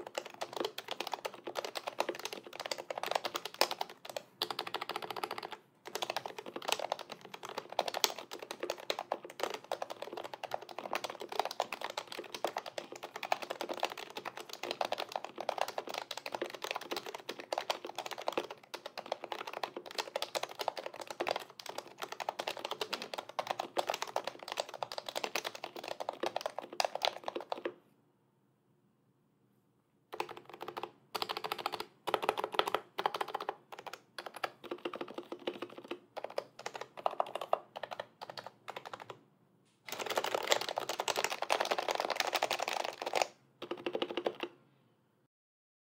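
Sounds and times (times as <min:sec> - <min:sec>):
keyboard typing: 0:00.0 - 0:27.8, 0:30.1 - 0:39.2, 0:39.9 - 0:44.6.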